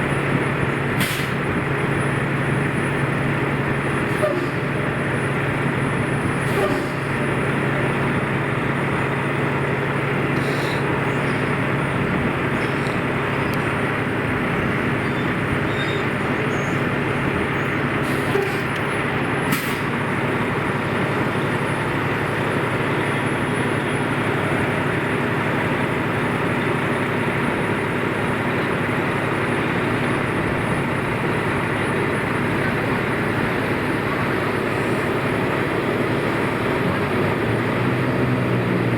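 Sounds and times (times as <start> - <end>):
street traffic engine hum: 0.0 - 38.9.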